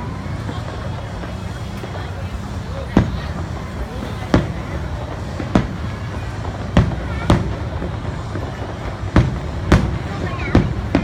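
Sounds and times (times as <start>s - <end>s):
firework shells booming: 0.0s - 11.0s
low rumble of fireworks: 0.0s - 11.0s.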